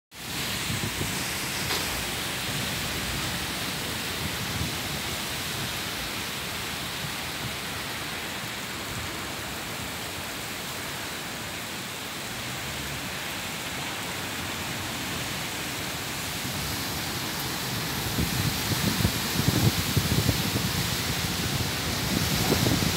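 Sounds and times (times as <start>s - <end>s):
heavy rain: 0.1s - 22.9s
strong wind: 0.2s - 12.1s, 13.2s - 22.9s.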